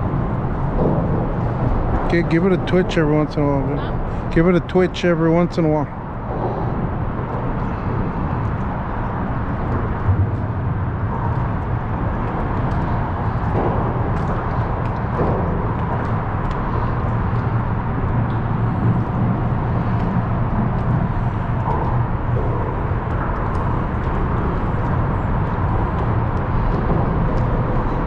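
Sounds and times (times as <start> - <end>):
traffic rumble on bridge: 0.0 - 28.0.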